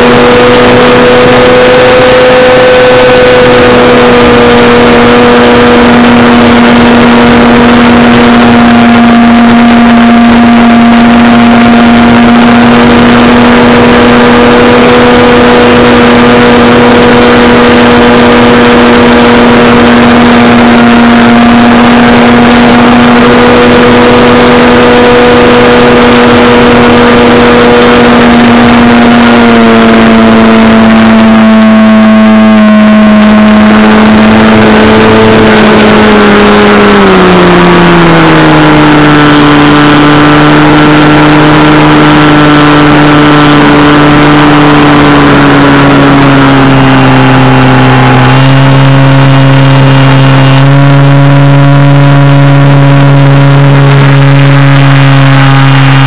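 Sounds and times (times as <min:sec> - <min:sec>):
electric propeller buzzing drone: 0:00.0 - 0:56.0.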